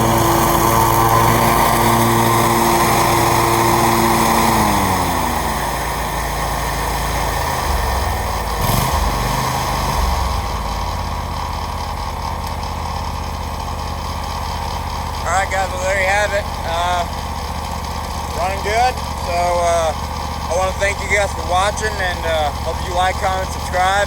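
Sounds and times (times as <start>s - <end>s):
mower engine running: 0.0s - 24.0s.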